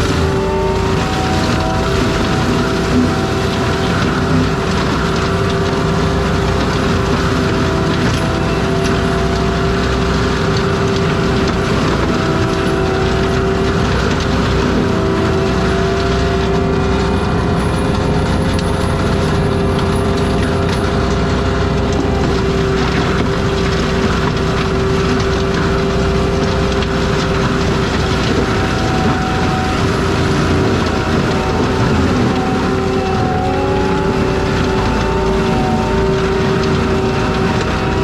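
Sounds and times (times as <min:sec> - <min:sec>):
diesel engine and mulcher running: 0:00.0 - 0:38.0
steady machine whine: 0:00.0 - 0:38.0.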